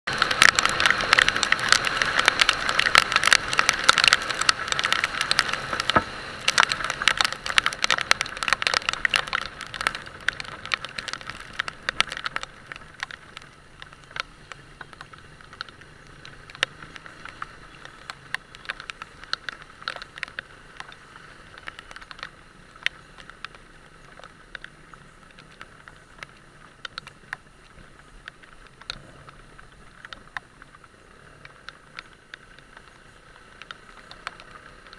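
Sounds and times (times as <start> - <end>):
heavy rain: 0.1 - 34.9
raindrops ticking near microphone: 0.1 - 34.9.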